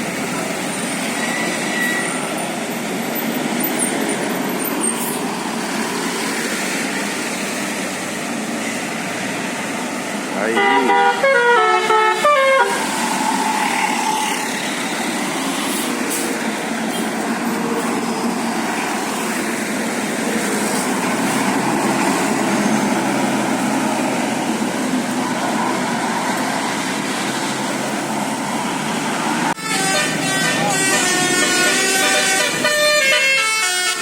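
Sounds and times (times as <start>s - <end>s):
road traffic engine rumble: 0.0s - 34.0s.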